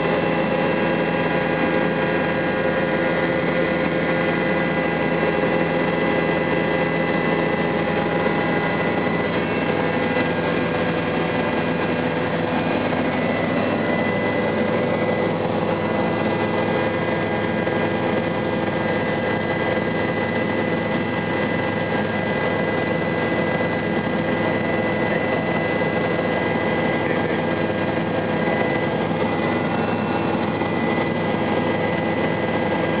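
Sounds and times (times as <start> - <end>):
helicopter engine drone: 0.0 - 33.0
steady whining tones: 0.0 - 33.0.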